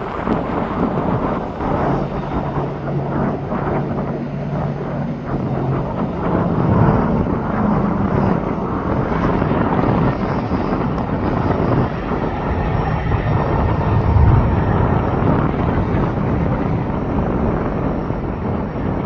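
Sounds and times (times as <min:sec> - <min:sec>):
aircraft engines passing close: 0:00.0 - 0:19.0.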